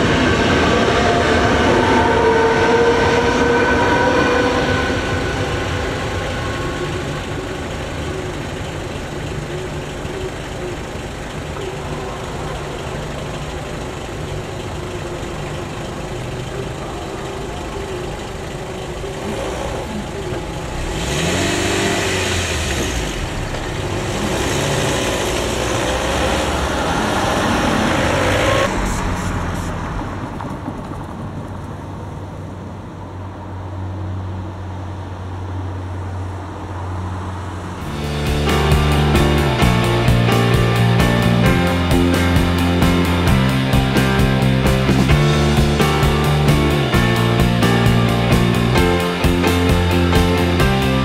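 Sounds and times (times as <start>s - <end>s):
cars driving past: 0.0s - 51.0s.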